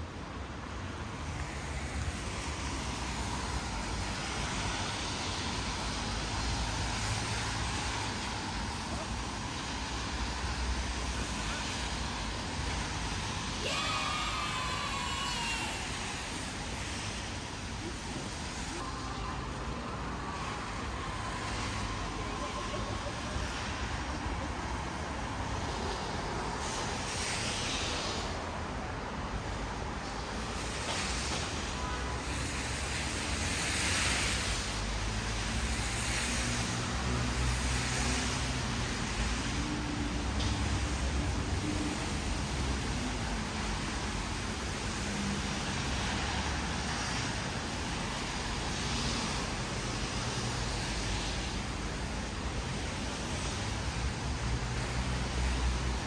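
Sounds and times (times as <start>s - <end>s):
vehicles passing on wet road: 0.0s - 56.0s.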